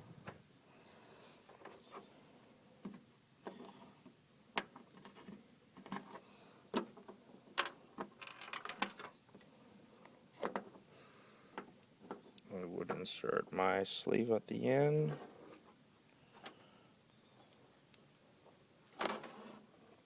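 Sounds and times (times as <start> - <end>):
faint high-pitched whine: 0.0 - 20.0.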